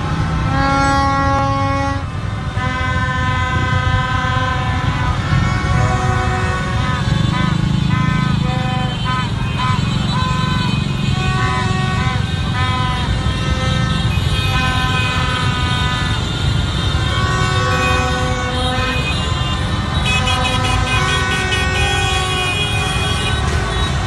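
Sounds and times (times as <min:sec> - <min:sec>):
horns tooting: 0:00.0 - 0:24.0
motorbikes rumbling: 0:00.0 - 0:24.0.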